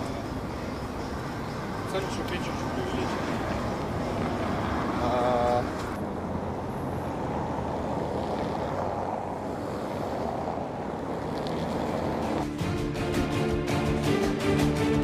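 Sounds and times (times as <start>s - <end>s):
street noise rumble: 0.0s - 15.0s.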